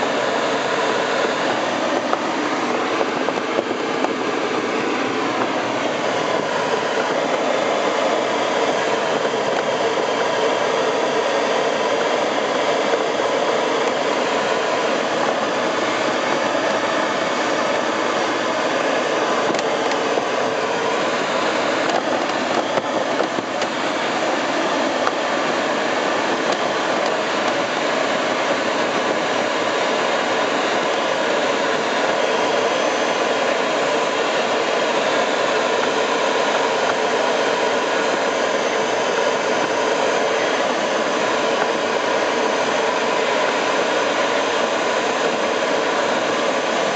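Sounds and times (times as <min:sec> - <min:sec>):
rushing airflow over glider canopy: 0:00.0 - 0:46.9.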